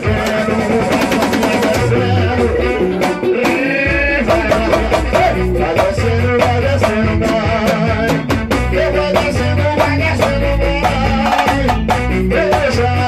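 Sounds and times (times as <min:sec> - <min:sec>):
busy percussion beat: 0:00.0 - 0:13.0
live band playing: 0:00.0 - 0:13.0.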